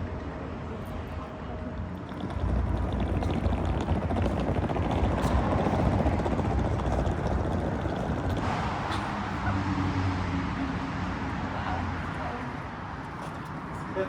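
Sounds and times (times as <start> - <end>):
vehicle interior road noise: 0.0 - 14.0.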